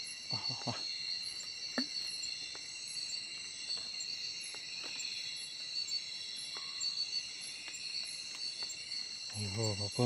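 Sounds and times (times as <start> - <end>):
insects shrilling: 0.0 - 10.0.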